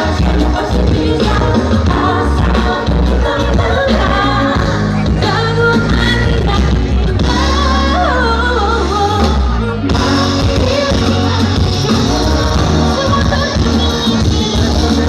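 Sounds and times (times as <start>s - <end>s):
live pop band playing: 0.0s - 15.0s.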